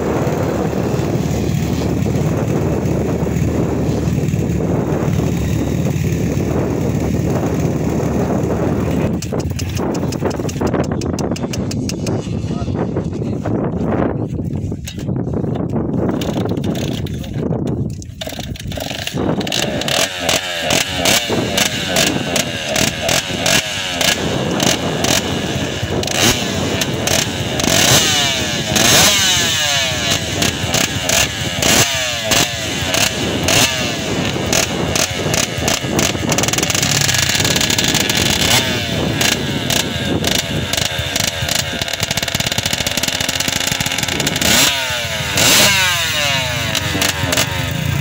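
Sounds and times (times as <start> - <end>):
dirt bike engine revving: 0.0 - 14.2, 15.8 - 48.0.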